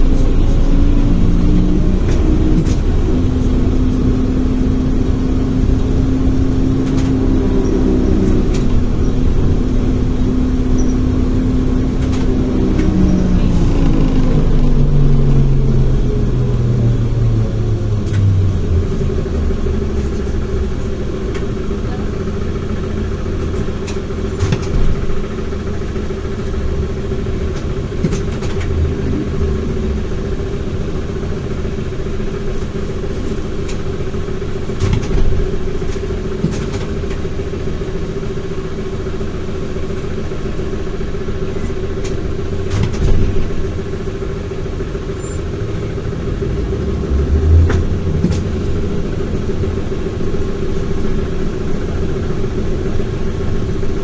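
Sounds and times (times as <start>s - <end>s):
body knocking and rattling: 0.0s - 54.0s
low road rumble: 0.0s - 54.0s
trolleybus humming: 0.0s - 54.0s.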